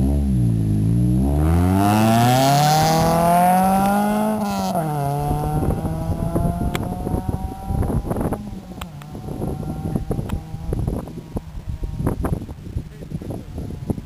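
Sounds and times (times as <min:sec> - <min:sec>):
car accelerating hard: 0:00.0 - 0:12.4.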